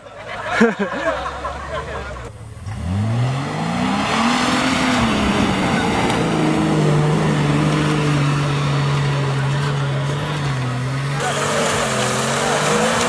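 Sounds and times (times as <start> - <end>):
engine running at high revs: 2.5 - 13.0.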